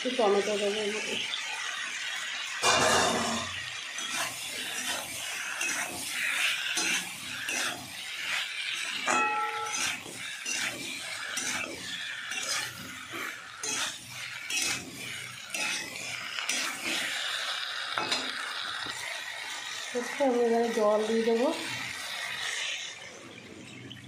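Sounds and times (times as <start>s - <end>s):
spatula scraping metal wok: 0.1s - 23.1s.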